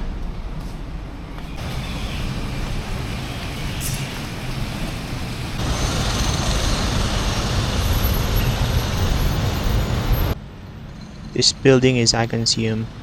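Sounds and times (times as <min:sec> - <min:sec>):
vehicle rumble with hiss: 0:00.1 - 0:10.7.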